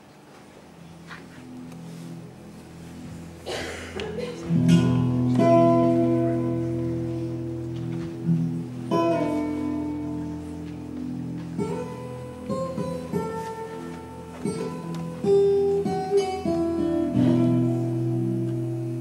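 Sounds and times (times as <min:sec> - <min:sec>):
slow acoustic guitar chords: 0:00.7 - 0:19.0.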